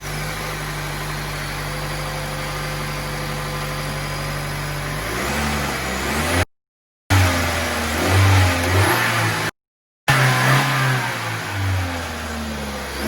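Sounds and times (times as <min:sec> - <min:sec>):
car engine idling and revving: 0:00.0 - 0:06.5, 0:07.1 - 0:13.0.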